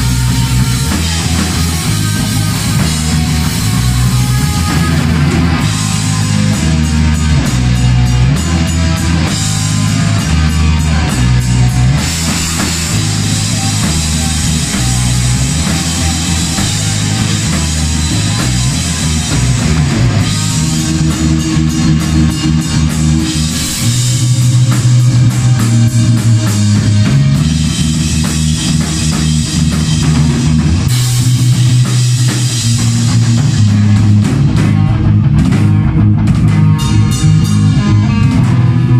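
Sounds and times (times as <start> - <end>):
bass line: 0.0 - 38.9
electric guitar: 0.0 - 38.9
steady drumming: 0.0 - 38.9.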